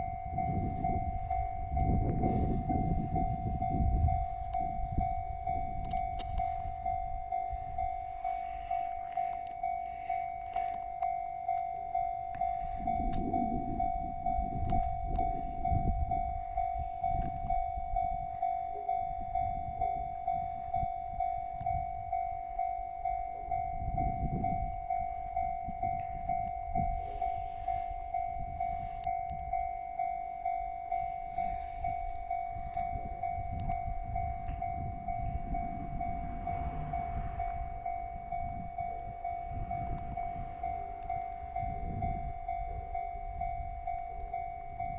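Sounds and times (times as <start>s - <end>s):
level-crossing alarm ringing: 0.0s - 44.9s
train rumbling past: 0.0s - 44.9s.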